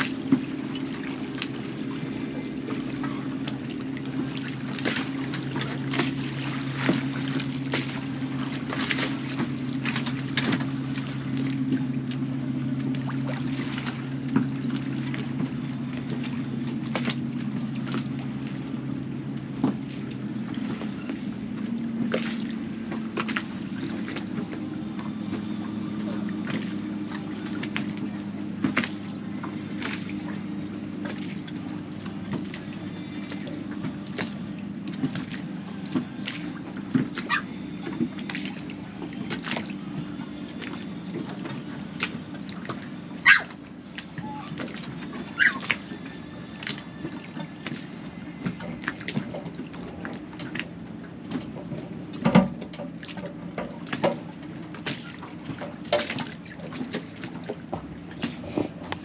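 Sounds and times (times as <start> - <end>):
steady low hum: 0.0 - 59.0
waves slapping against hull: 0.0 - 59.0.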